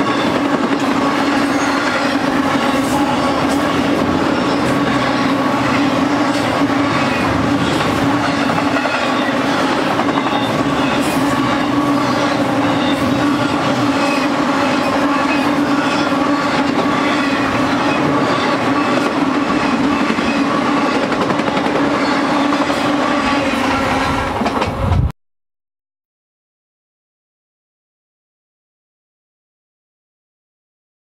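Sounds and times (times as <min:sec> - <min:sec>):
freight train wheels clattering: 0:00.0 - 0:25.1.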